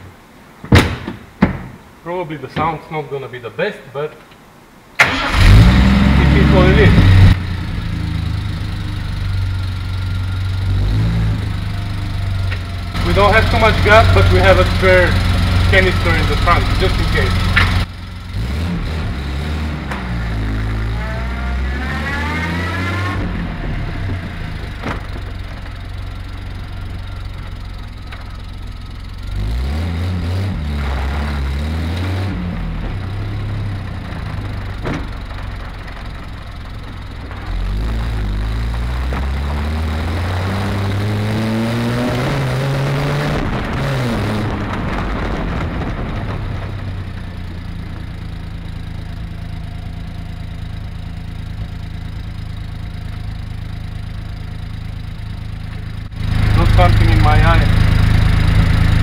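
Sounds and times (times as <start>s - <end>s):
car engine accelerating: 5.0s - 59.0s.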